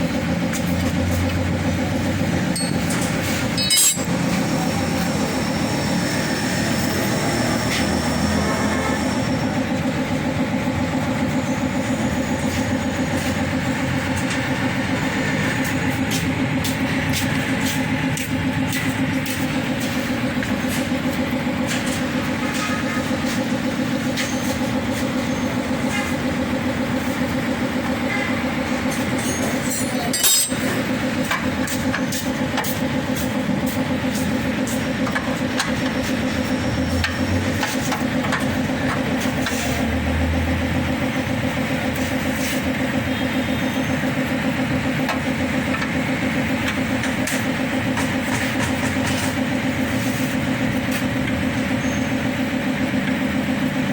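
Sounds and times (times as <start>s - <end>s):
engine droning with fast pulse: 0.0s - 53.9s.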